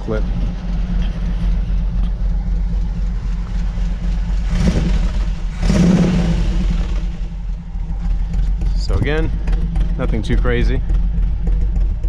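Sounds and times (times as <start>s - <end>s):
engine idling with loping exhaust: 0.0s - 12.0s.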